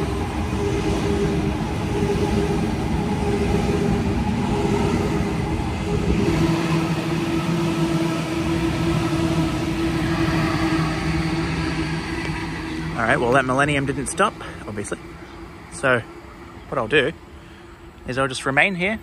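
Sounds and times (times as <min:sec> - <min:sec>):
electric train motor hum: 0:00.0 - 0:19.0
wheels rumbling on rails: 0:00.0 - 0:19.0.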